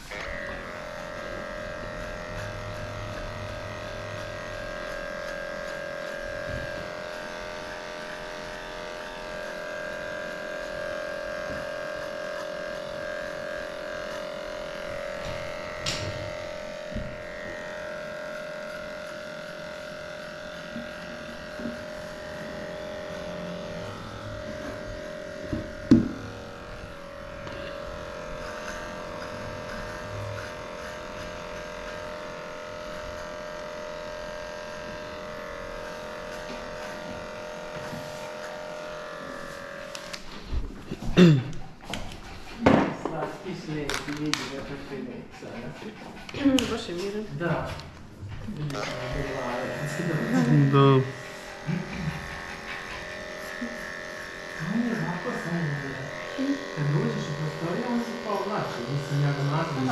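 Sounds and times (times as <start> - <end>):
electric clipper humming: 0.0 - 59.9.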